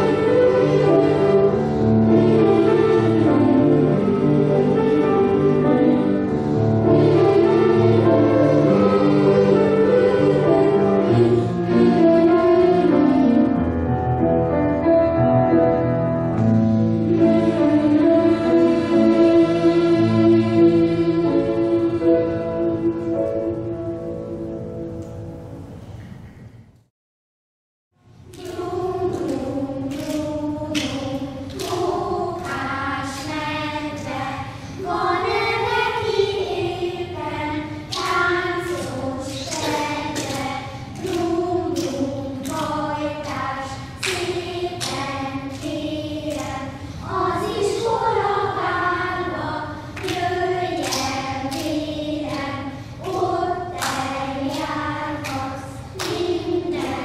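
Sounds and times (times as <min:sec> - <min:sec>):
children singing together: 0:00.0 - 0:13.4, 0:17.0 - 0:23.8, 0:28.3 - 0:57.0.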